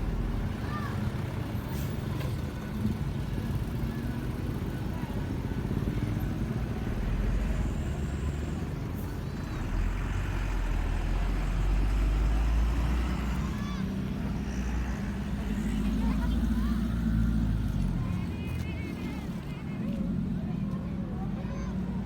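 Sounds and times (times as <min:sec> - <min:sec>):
heavy vehicle engines rumbling: 0:00.0 - 0:22.0.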